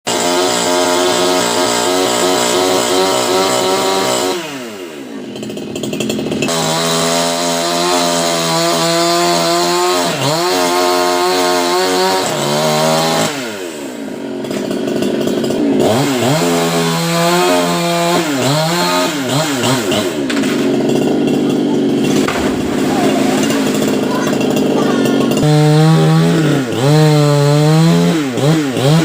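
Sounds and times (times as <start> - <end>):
chainsaw cutting a tree: 0.1 - 29.0.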